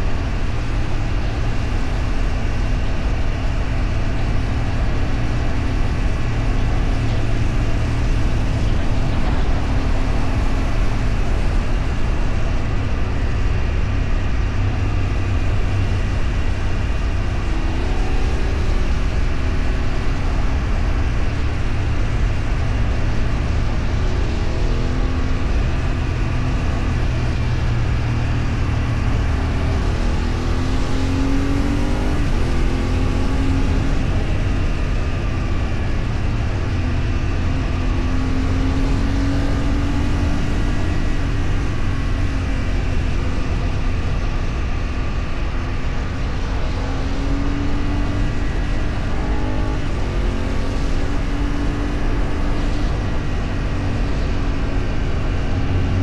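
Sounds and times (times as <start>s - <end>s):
engine accelerating: 0.0s - 56.0s
vehicle engine and road noise: 0.0s - 56.0s.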